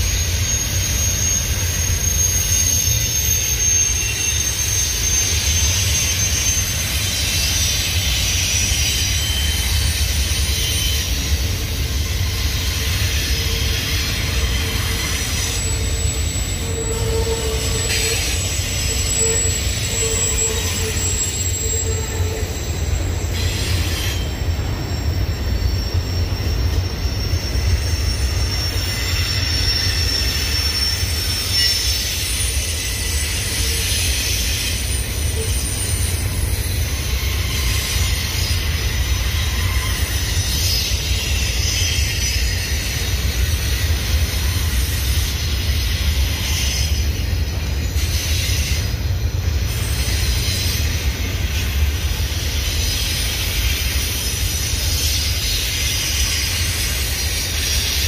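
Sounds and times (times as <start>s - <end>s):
high-pitched wheel squeal: 0.0s - 58.0s.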